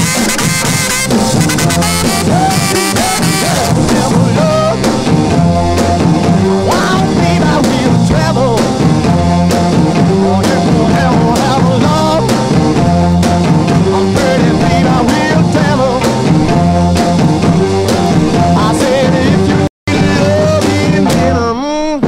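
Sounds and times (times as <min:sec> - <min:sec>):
background music with drum beat: 0:00.0 - 0:22.0.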